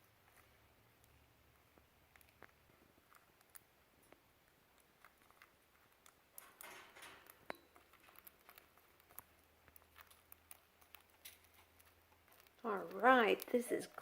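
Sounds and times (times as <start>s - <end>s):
bird pecking at food pellets: 0.0s - 14.0s.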